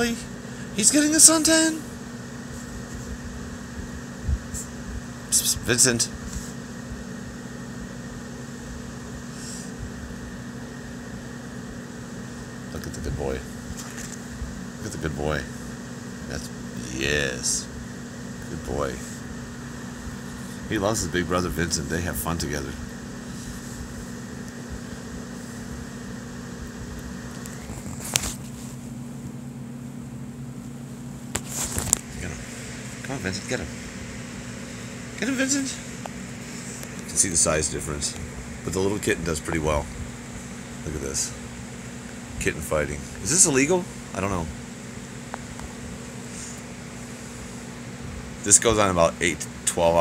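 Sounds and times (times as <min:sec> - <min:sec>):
low mechanical hum with hiss: 0:00.0 - 0:50.0.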